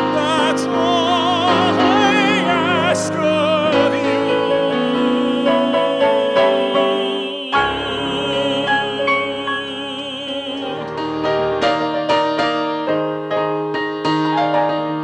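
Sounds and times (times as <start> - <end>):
piano accompaniment: 0.0 - 15.0.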